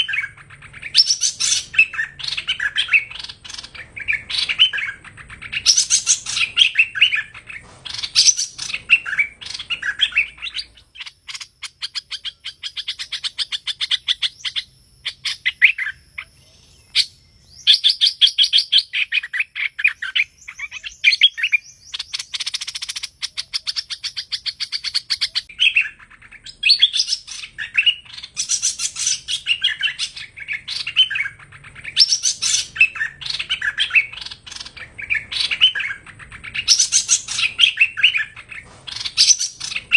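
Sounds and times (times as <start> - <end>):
songbird rapid chattering: 0.0 - 39.9
songbird whistled phrases: 0.0 - 39.9.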